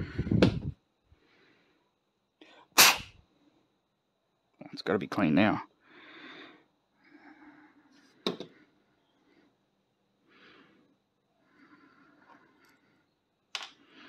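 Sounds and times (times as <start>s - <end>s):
soft breaths: 0.0s - 3.9s, 5.7s - 14.0s.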